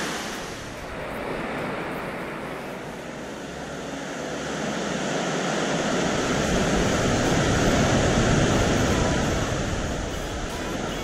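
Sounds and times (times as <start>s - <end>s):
sea surf washing in: 0.0s - 11.0s.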